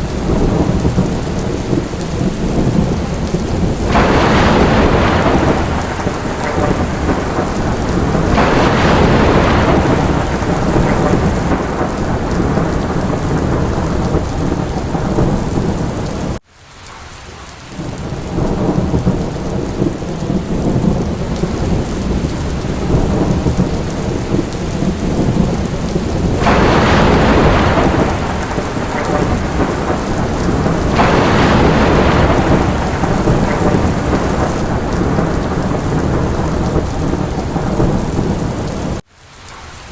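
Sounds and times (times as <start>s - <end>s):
low rumbling thunder: 0.0s - 16.4s, 17.8s - 39.0s
heavy rain: 0.0s - 39.9s.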